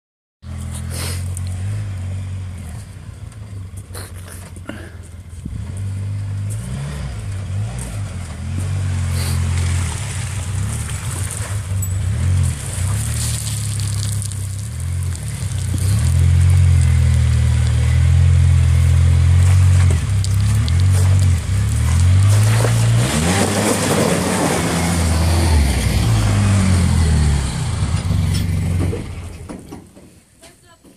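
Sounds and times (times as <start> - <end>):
engine revving: 0.4 - 3.1, 5.4 - 29.5.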